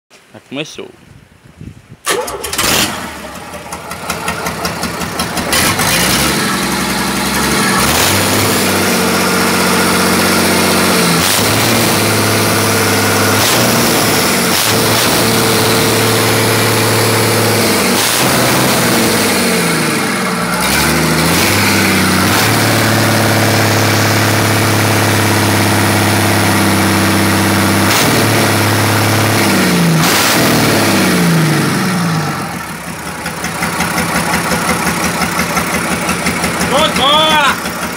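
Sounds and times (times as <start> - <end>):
diesel engine running loudly: 2.4 - 37.9.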